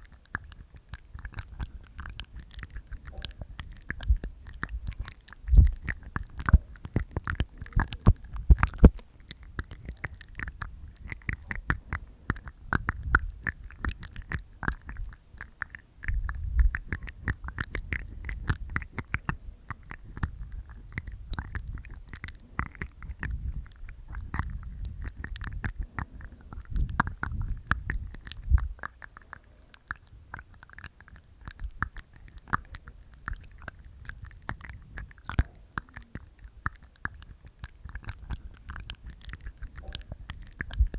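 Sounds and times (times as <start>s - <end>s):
wet tongue and teeth clicks: 0.0s - 40.9s.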